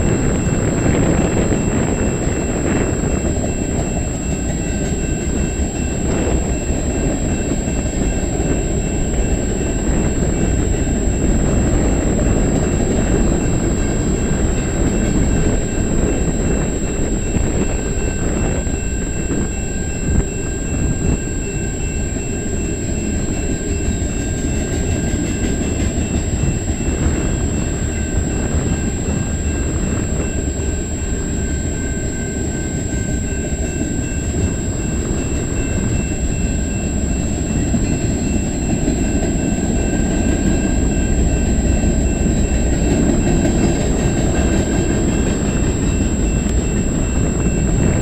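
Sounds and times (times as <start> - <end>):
train car clank: 0.0 - 48.0
train wheels rumbling on rail: 0.0 - 48.0.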